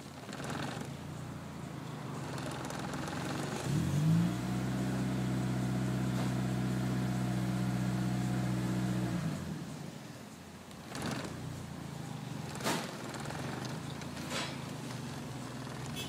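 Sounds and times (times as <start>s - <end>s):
turbocharged engine revving: 0.2s - 9.8s, 10.8s - 16.0s.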